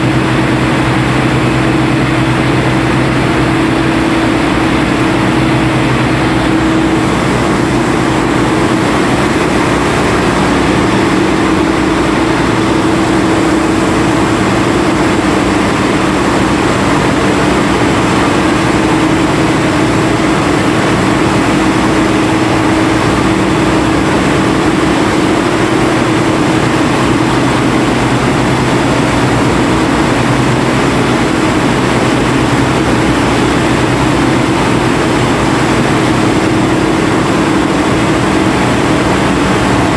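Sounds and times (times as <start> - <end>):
boat engine humming loudly: 0.0 - 39.9.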